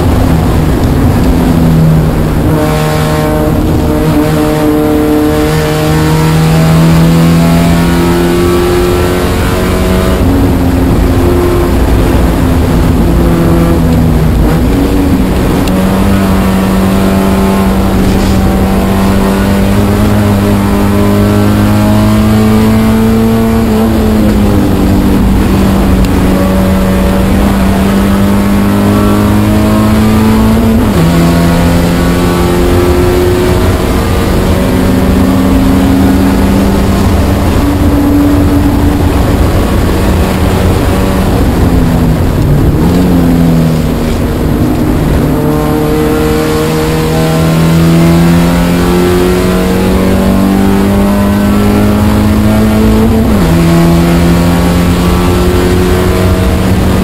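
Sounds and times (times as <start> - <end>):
car engine revving on track: 0.0 - 57.0.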